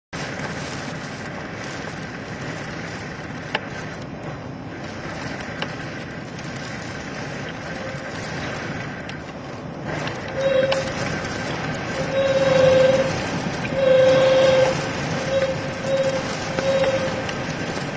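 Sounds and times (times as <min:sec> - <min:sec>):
wind buffeting the microphone: 0:00.2 - 0:17.9.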